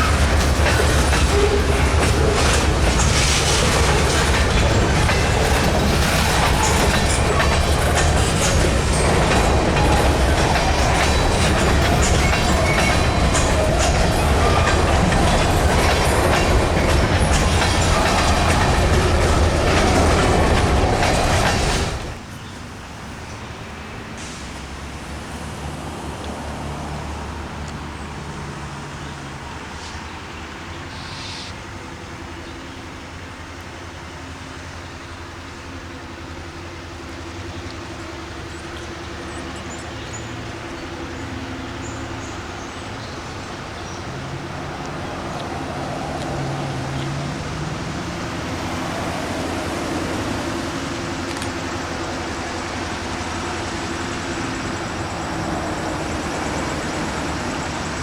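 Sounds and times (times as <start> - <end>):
diesel locomotive engine humming: 0.0 - 58.0.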